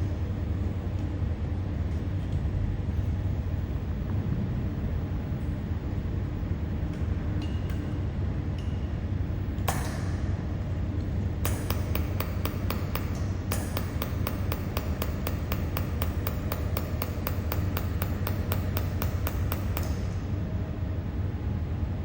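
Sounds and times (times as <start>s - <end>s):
machine low hum: 0.0s - 22.0s.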